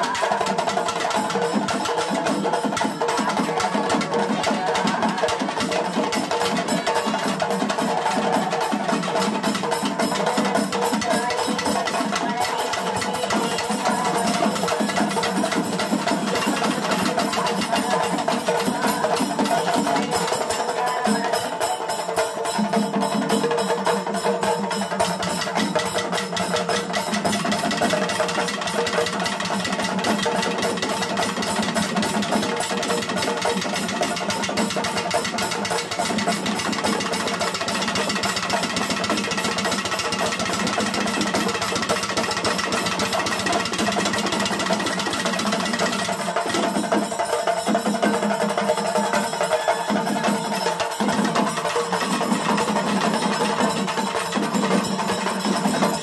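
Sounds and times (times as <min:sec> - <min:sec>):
drums played fast: 0:00.0 - 0:56.0.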